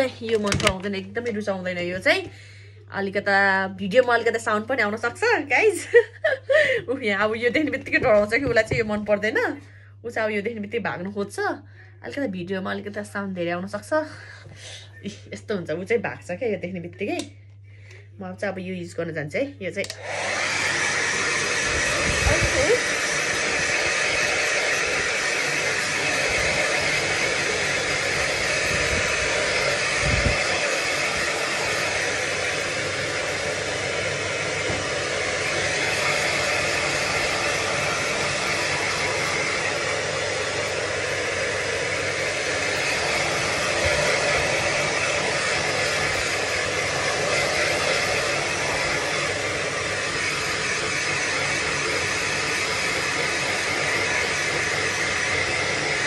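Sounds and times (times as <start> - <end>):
hair dryer blowing: 0.0 - 9.6, 19.8 - 56.0.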